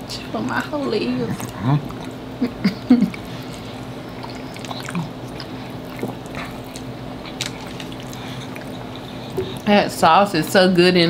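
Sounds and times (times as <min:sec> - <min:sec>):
steady low hum: 0:00.0 - 0:11.0
wet chewing: 0:00.8 - 0:09.7.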